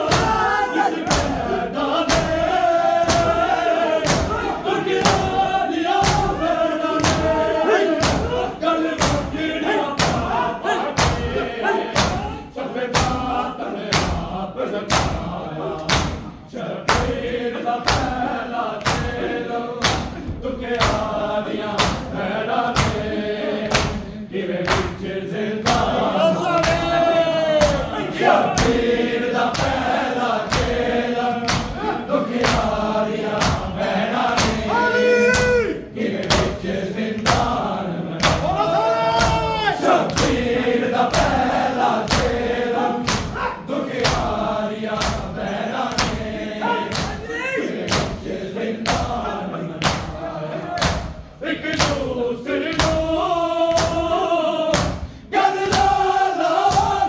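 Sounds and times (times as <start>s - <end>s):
hands striking chests in unison: 0.0s - 57.0s
men singing in chorus: 0.0s - 57.0s.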